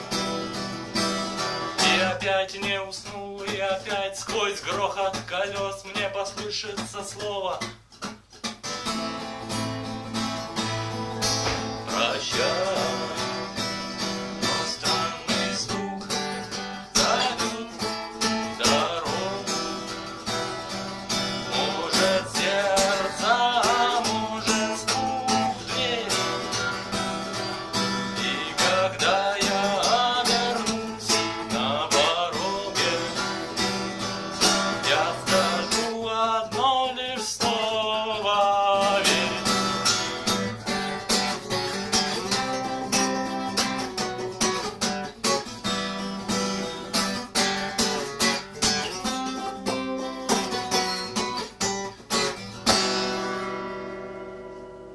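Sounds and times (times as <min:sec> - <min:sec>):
strummed acoustic guitar: 0:00.0 - 0:54.9.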